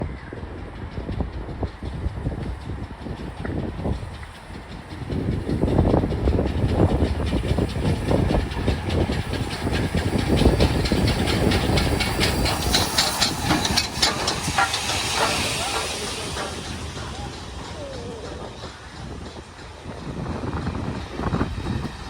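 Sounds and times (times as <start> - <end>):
train wheels clattering on rails: 0.0 - 22.0
steam hissing: 1.0 - 22.0.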